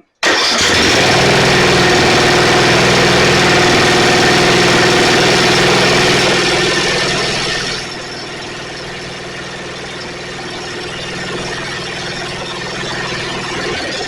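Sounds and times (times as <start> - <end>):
riding mower engine running: 0.2 - 14.0.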